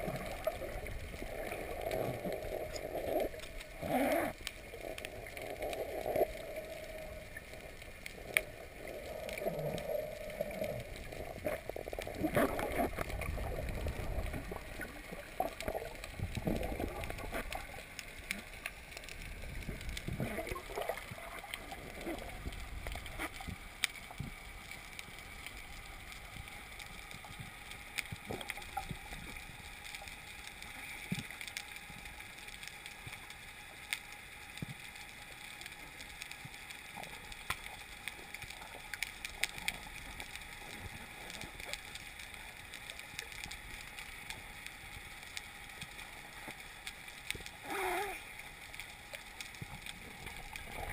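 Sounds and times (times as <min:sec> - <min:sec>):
water gurgling and sloshing: 0:00.0 - 0:33.4, 0:34.6 - 0:50.9
steady hiss: 0:00.0 - 0:50.9.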